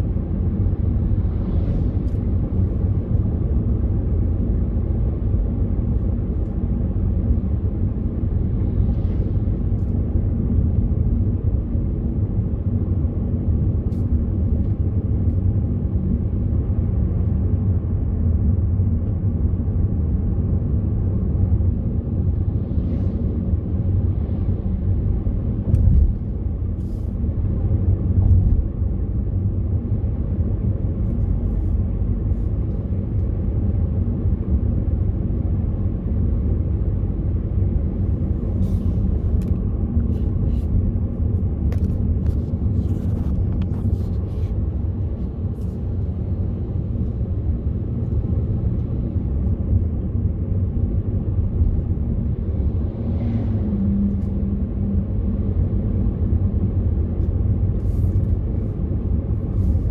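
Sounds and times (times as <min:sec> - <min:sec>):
car road noise rumble: 0:00.0 - 0:59.9.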